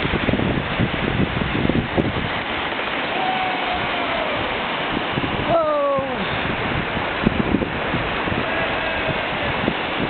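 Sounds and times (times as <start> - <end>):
gusty low buffeting: 0.0 - 10.0
rushing whitewater: 0.0 - 10.0.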